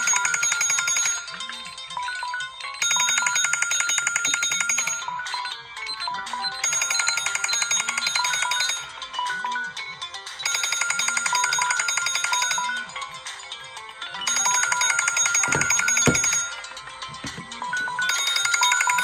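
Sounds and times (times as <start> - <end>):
smartphone alarm chiming melody: 0.0 - 19.0.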